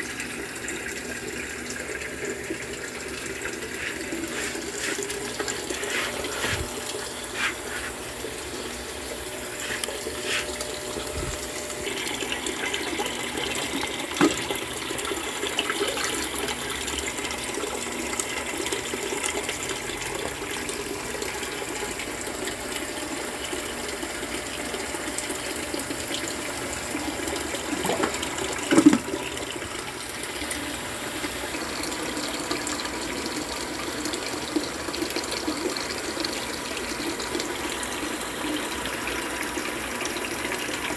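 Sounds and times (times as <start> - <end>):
water running into washing machine: 0.0 - 40.9.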